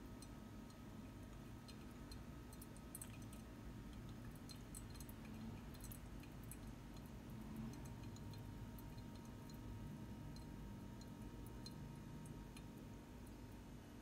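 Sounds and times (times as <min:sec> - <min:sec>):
coffee dripping: 0:00.0 - 0:14.0
low steady hum: 0:00.0 - 0:14.0.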